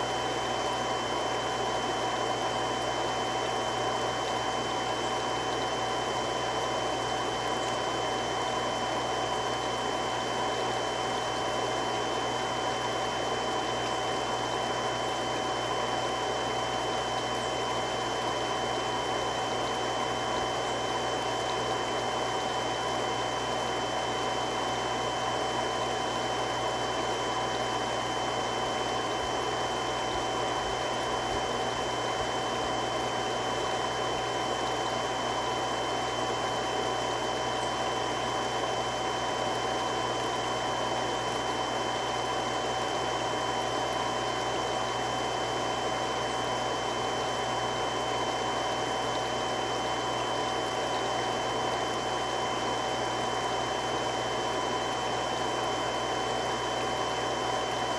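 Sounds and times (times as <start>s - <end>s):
pump motor whine and hum: 0.0s - 57.9s
water rushing through pump: 0.0s - 57.9s.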